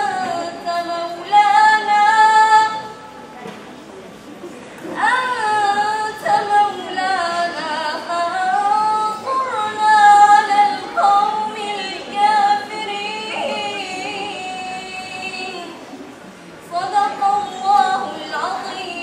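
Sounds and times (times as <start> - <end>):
woman chanting melodic recitation: 0.0 - 3.0, 5.0 - 15.8, 16.6 - 19.0.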